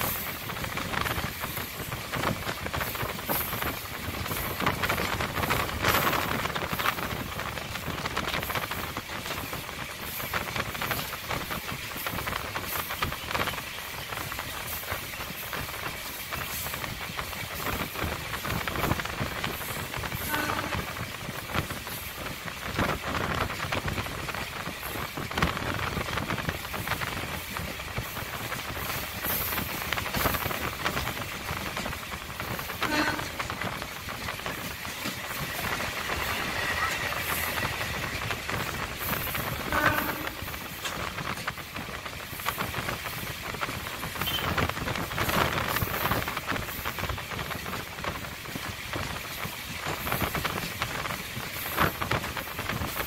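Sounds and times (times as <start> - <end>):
train rumbling on track: 0.0 - 53.0
wheels and carriage rattling: 0.0 - 53.0.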